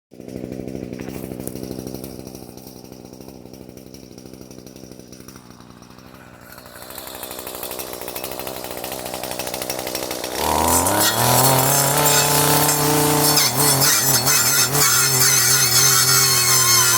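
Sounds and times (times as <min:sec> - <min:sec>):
motor humming and speeding up: 0:00.2 - 0:16.9.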